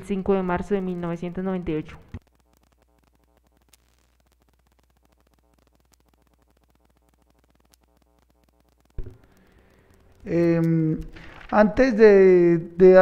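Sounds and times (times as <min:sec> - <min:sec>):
faint electrical hum with static: 0:00.0 - 0:13.0.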